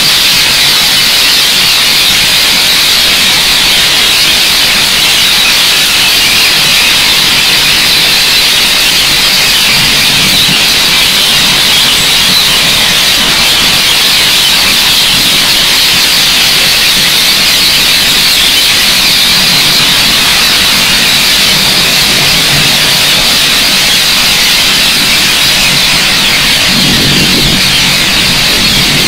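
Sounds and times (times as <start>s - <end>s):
flock of parakeets calling: 0.0s - 29.0s.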